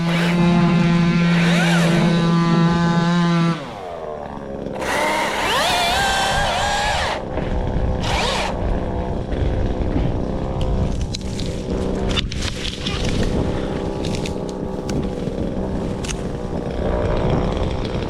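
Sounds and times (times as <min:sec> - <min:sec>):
chainsaw running: 0:00.0 - 0:18.0.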